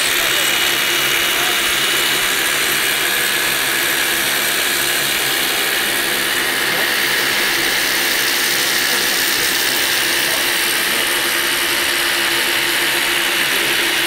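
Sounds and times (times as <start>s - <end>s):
heavy construction machinery running: 0.0s - 14.0s.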